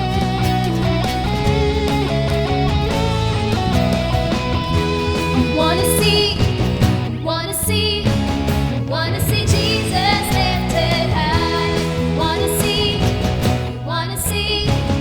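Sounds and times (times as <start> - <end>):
wavering lead melody: 0.0 - 14.6
band playing upbeat worship song: 0.0 - 15.0.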